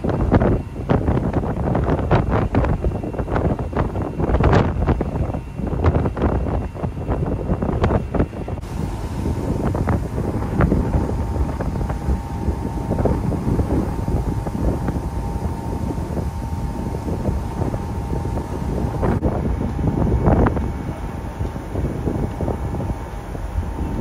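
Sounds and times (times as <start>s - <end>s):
faint steady hum: 0.0s - 24.0s
low rumble of ship: 0.0s - 24.0s
rush of ship wake: 0.0s - 24.0s
wind buffeting microphone: 0.0s - 24.0s.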